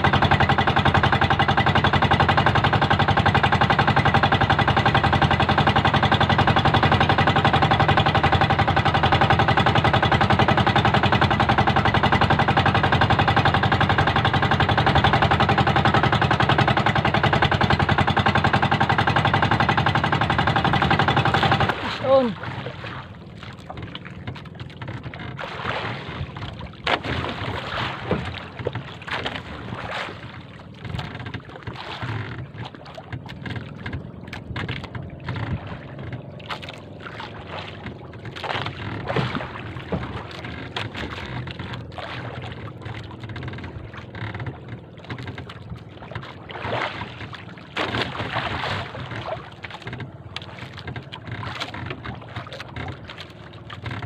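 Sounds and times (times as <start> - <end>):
boat engine drone: 0.0 - 54.0
water splashing along hull: 0.0 - 54.0.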